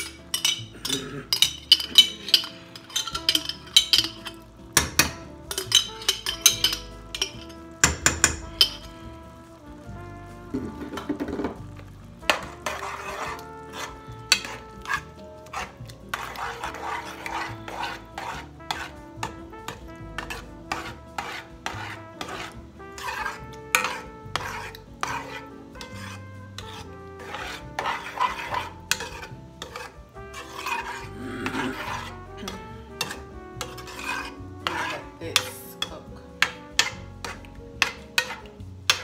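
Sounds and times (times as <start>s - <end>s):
spoon scraping and clinking on pot: 0.0s - 9.0s, 10.6s - 39.0s
metal spoon stirring sauce in pot: 0.0s - 39.0s.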